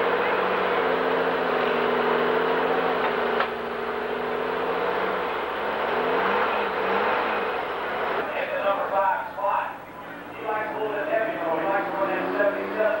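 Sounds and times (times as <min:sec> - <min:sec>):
diesel engine idling with whine: 0:00.0 - 0:13.0.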